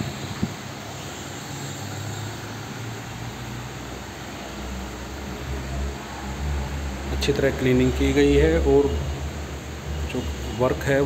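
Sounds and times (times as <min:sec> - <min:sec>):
workshop hum and hiss: 0:00.0 - 0:11.0.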